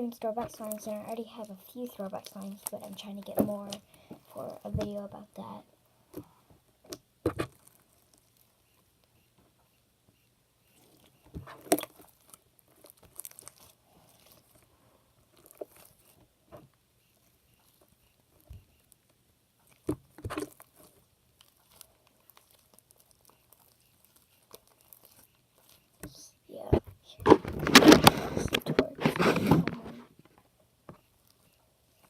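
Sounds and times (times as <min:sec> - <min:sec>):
slime squelching: 0:00.0 - 0:08.6, 0:10.7 - 0:16.4, 0:17.0 - 0:30.0.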